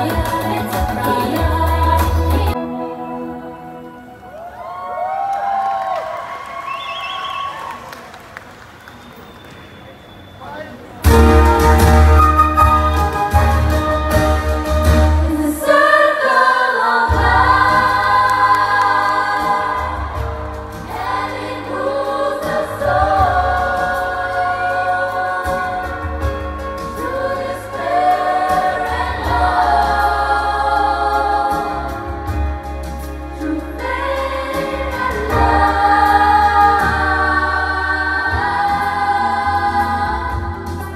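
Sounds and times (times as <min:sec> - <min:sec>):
amplified accompaniment with bass: 0:00.0 - 0:04.2, 0:11.0 - 0:16.4, 0:17.1 - 0:40.9
choir singing: 0:00.0 - 0:04.3, 0:11.1 - 0:32.5, 0:33.4 - 0:40.9.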